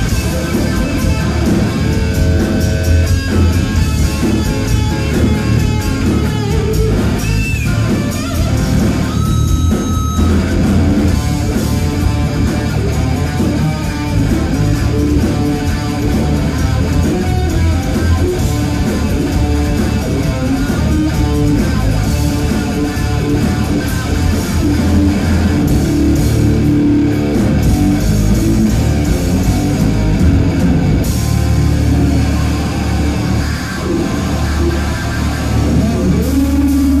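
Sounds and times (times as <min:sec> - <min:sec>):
live hard rock band playing: 0:00.0 - 0:37.0.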